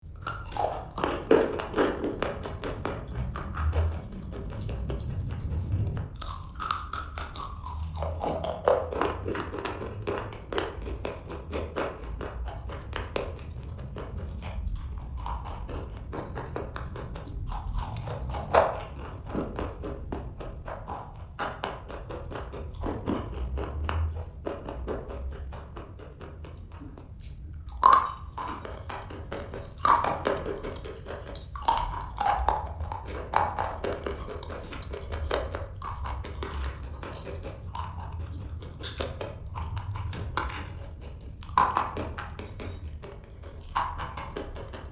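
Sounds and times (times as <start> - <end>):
chewing crunchy chalk: 0.0 - 44.9.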